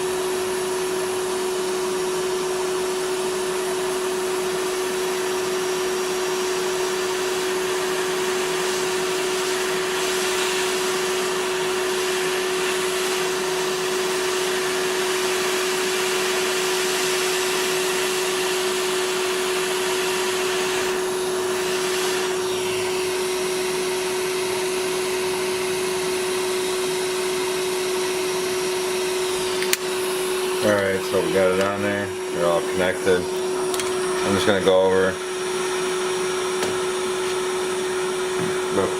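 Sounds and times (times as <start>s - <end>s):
hot-air rework station hissing: 0.0s - 38.9s
fan hum: 2.0s - 38.9s.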